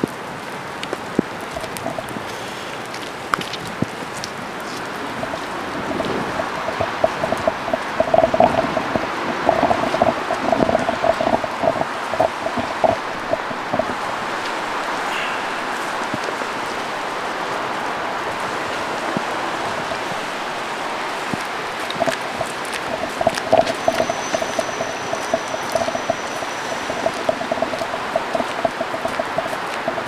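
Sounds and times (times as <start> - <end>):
patter of light ticks: 0.0 - 30.0
steady rain hiss: 0.0 - 30.0.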